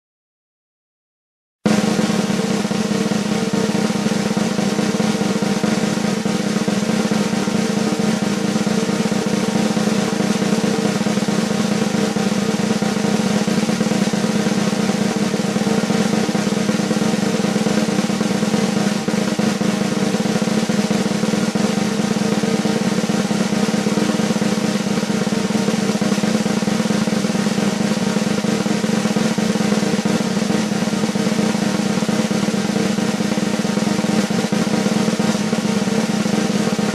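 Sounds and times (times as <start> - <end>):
snare drum roll: 1.7 - 36.9.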